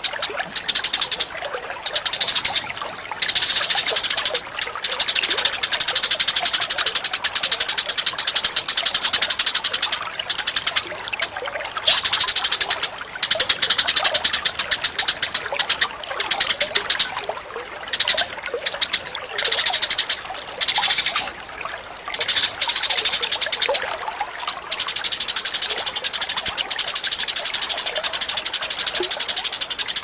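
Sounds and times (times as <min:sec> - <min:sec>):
songbird rapid chattering calls: 0:00.0 - 0:17.2, 0:17.9 - 0:21.3, 0:22.1 - 0:30.0
running water: 0:00.0 - 0:30.0.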